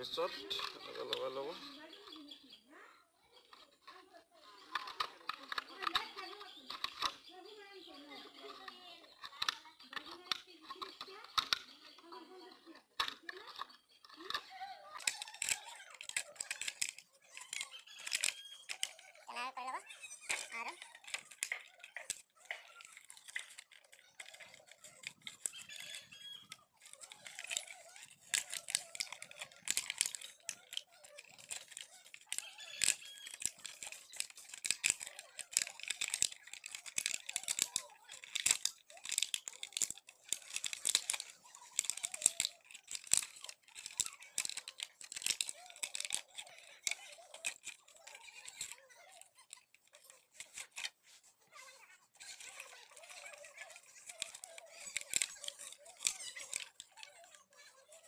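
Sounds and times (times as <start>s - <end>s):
plastic bottle crinkling: 4.5s - 51.2s, 52.2s - 57.1s.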